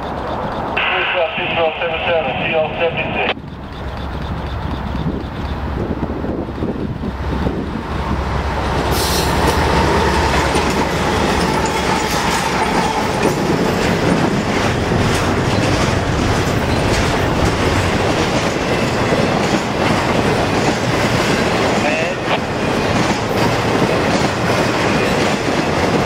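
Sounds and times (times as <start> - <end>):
diesel locomotives running: 0.0 - 26.0
freight cars rumbling: 0.0 - 26.0
wheels clacking over rail joints: 3.4 - 26.0.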